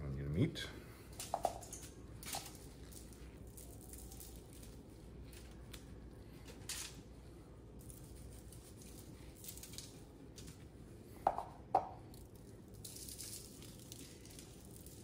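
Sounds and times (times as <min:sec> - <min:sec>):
seasoning sprinkled hiss: 0:00.8 - 0:15.0.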